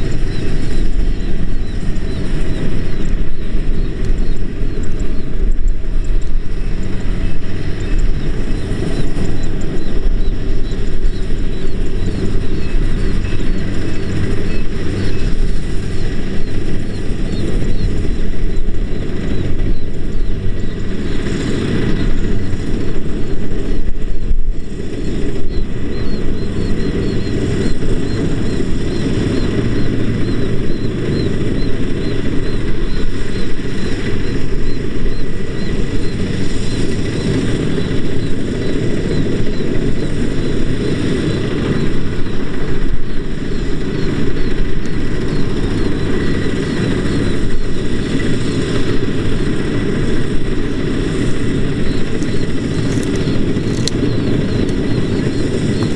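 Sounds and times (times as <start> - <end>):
combine harvester engine and machinery: 0.0 - 55.9.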